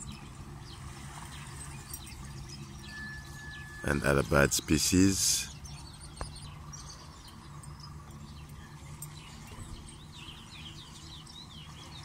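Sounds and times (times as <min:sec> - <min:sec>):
low background hum: 0:00.0 - 0:12.0
small birds chirping: 0:00.0 - 0:12.0.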